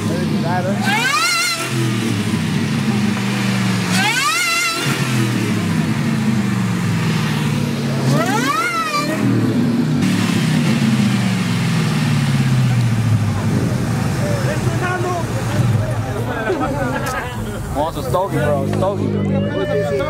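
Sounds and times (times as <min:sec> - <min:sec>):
pickup engine idling and revving: 0:00.0 - 0:20.0.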